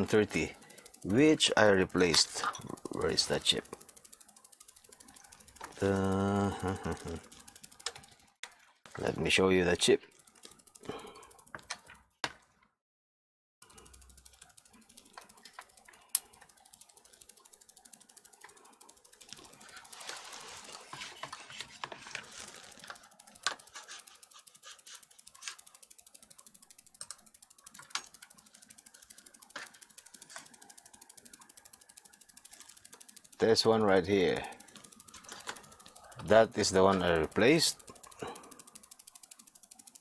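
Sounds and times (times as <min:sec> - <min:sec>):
rapid mechanical ticking: 0:00.0 - 0:12.2, 0:13.6 - 0:40.0.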